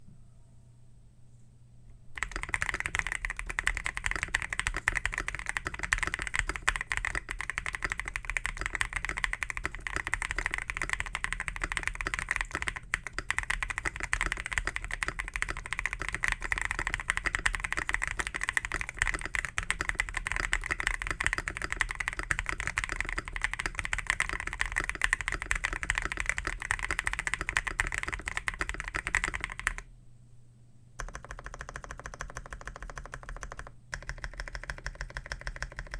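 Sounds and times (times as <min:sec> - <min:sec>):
fast mechanical keyboard typing: 0:02.2 - 0:29.8, 0:31.0 - 0:35.9.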